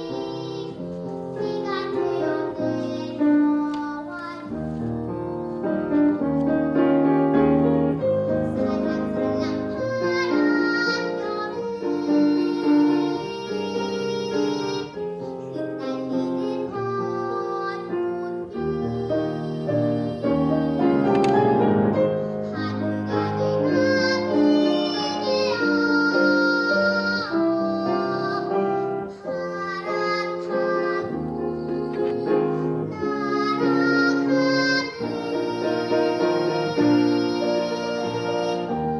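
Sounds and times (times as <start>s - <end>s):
girl singing: 0.0s - 38.9s
instrumental accompaniment: 0.0s - 38.9s.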